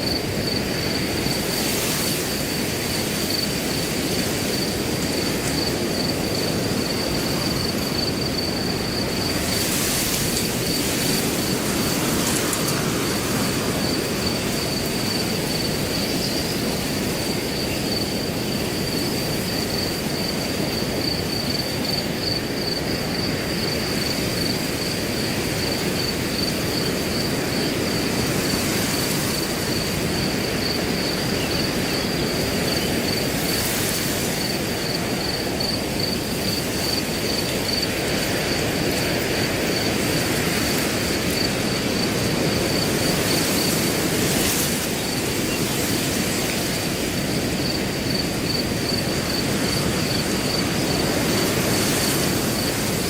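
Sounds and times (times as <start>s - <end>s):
crickets trilling: 0.0s - 53.0s
wind blowing through grass: 0.0s - 53.0s.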